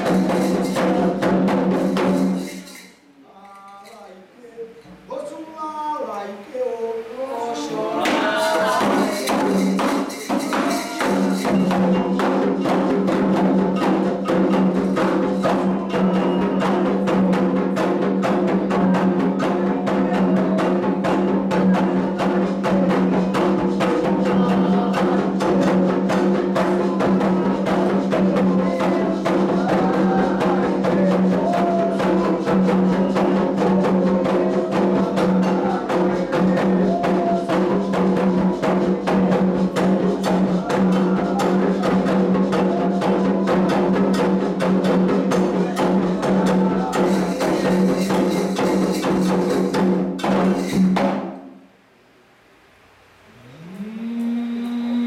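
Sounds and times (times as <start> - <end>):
struck percussion: 0.0 - 4.0, 8.0 - 51.5
atabaque drums playing rhythm: 0.0 - 4.1, 7.6 - 51.5.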